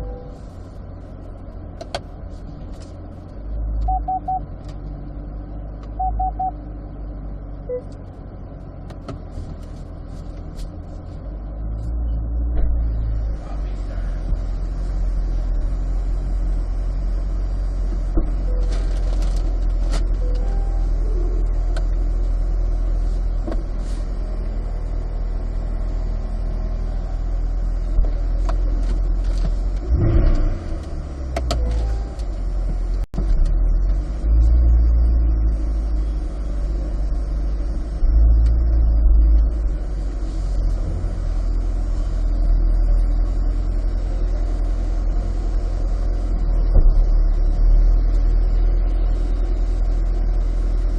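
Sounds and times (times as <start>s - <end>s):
car engine drone: 0.0s - 50.9s
road noise: 0.0s - 50.9s.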